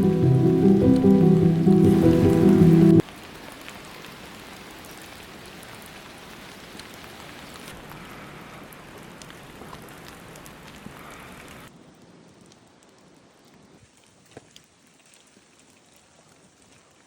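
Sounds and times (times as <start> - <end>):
sharp raindrops striking close: 0.0 - 13.7
steady rain falling: 0.0 - 17.0.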